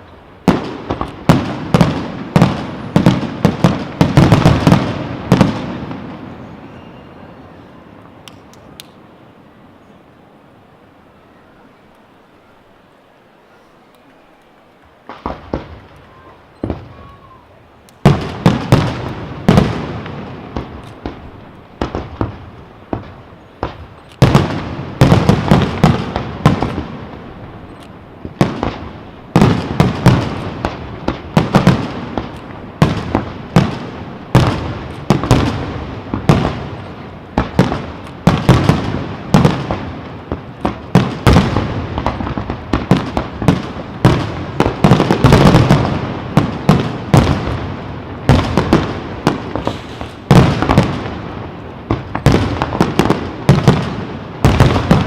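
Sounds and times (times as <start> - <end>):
fireworks bursts and bangs: 0.0 - 9.0, 15.0 - 55.0.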